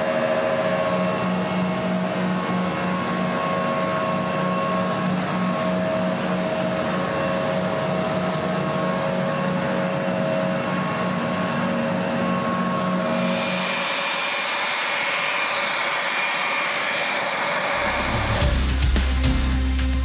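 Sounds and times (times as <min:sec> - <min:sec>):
high machinery whines: 0:00.0 - 0:20.0
low machinery hum: 0:00.0 - 0:20.0.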